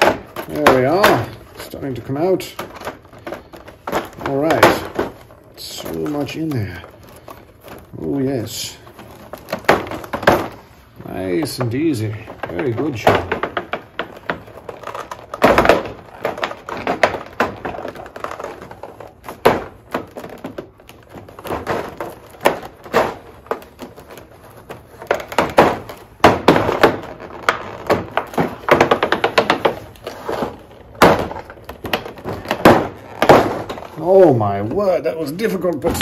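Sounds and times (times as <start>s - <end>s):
plastic blister tray crackling: 0.0s - 36.0s.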